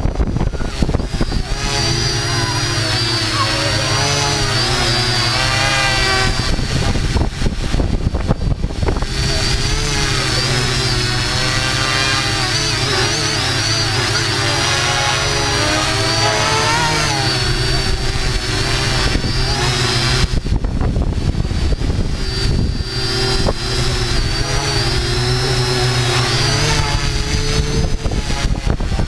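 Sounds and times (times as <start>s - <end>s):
drone propellers whining: 0.0s - 29.0s
rough fluttering noise: 0.0s - 29.0s.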